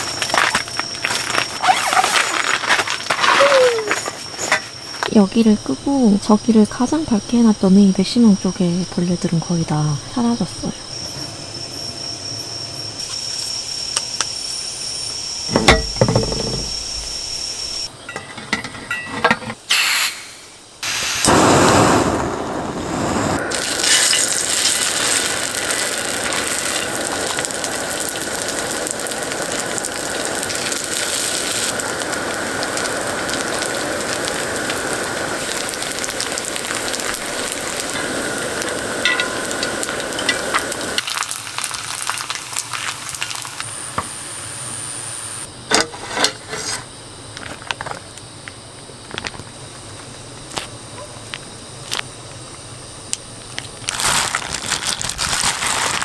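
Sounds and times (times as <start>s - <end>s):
oil sizzling on a griddle: 0.0s - 7.9s, 11.7s - 17.9s, 19.7s - 56.0s
crickets chirping: 0.0s - 56.0s.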